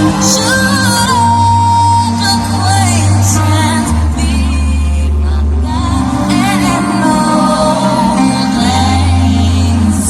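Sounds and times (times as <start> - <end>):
pop music with singing: 0.0 - 10.0.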